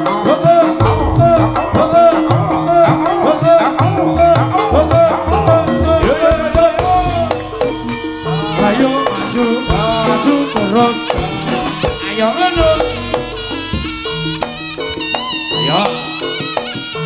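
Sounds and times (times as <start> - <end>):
fast drum pattern: 0.0 - 17.0
gamelan melody: 0.0 - 17.0.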